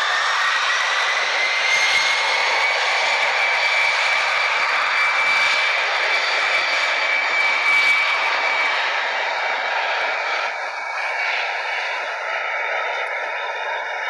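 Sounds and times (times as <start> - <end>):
jet engines at takeoff power: 0.0 - 14.0.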